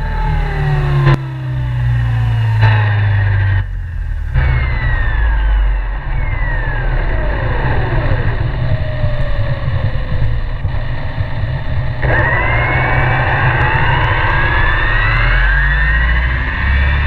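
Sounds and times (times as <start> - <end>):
helicopter engine whine: 0.0 - 17.0
helicopter low rumble: 0.0 - 17.0.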